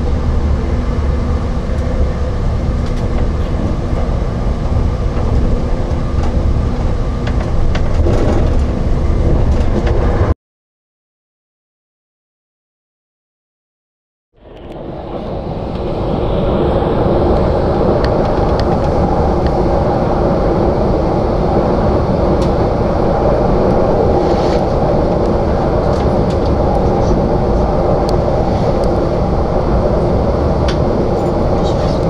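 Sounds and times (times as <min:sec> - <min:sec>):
train wheels rumbling: 0:00.0 - 0:10.3, 0:14.6 - 0:32.0.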